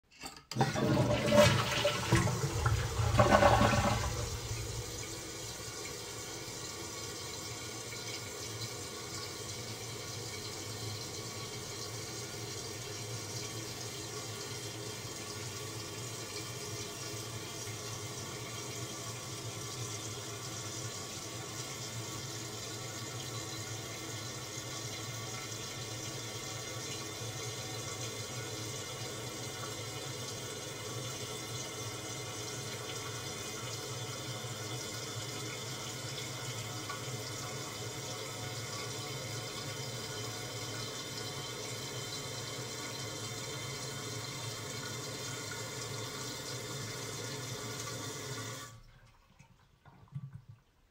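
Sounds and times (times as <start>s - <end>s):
toilet tank refilling: 0.4s - 50.9s.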